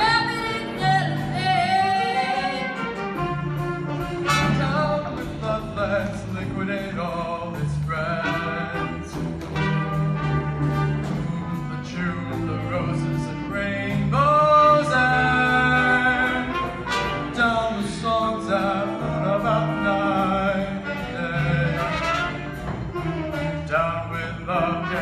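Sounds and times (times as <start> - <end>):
instrumental accompaniment: 0.0 - 25.0.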